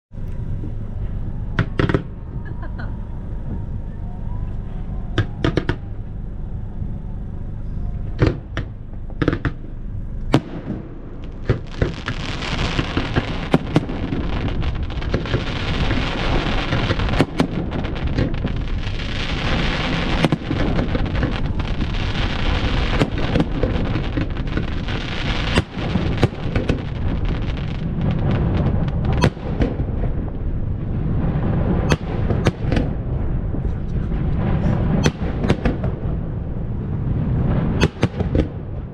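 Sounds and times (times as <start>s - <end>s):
fireworks crackling and hissing: 0.2s - 38.9s
fireworks booming bursts: 0.4s - 38.9s
sharp fireworks bangs: 0.5s - 2.8s, 4.8s - 6.2s, 8.0s - 38.9s.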